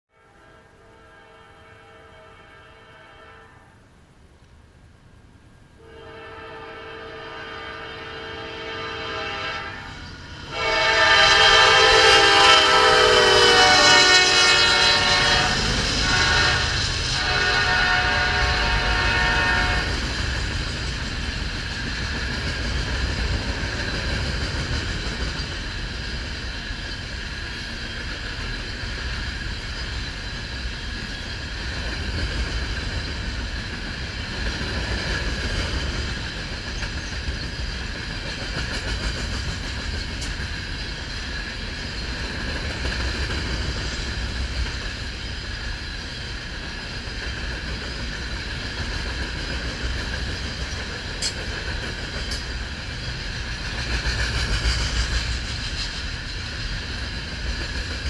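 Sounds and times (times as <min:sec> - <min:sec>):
train wheels rumbling on rails: 0:05.8 - 0:58.0.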